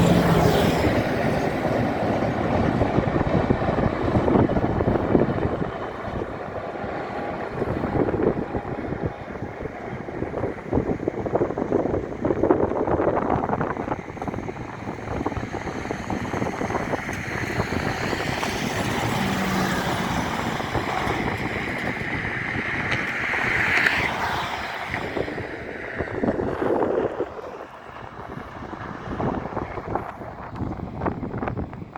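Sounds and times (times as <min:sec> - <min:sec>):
train wheel and rail clatter: 0:00.0 - 0:31.9.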